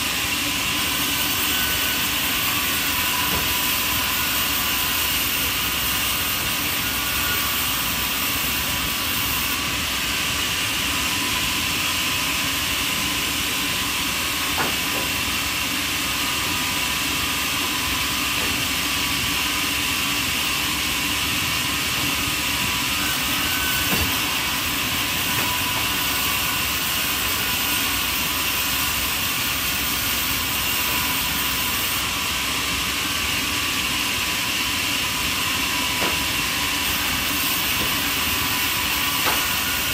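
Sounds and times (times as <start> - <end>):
machine noise with hiss: 0.0 - 39.9.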